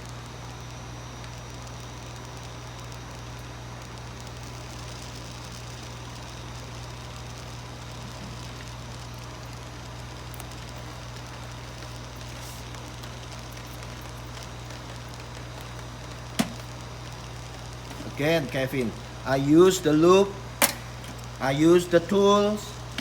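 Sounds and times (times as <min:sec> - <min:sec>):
printer low hum: 0:00.0 - 0:23.0
even hiss: 0:03.9 - 0:23.0.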